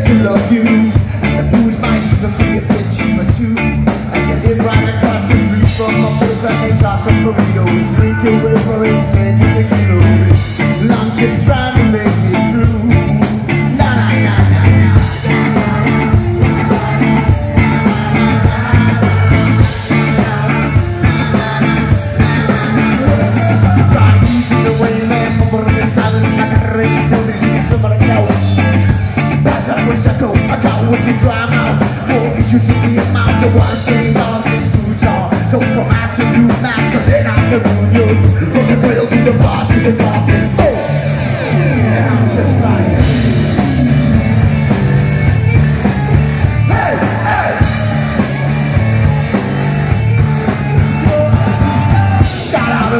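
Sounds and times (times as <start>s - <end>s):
person singing: 0.0s - 44.7s, 46.5s - 49.6s, 50.2s - 52.9s
bass guitar: 0.0s - 52.9s
drums keeping a steady beat: 0.0s - 52.9s
electric guitars: 0.0s - 52.9s.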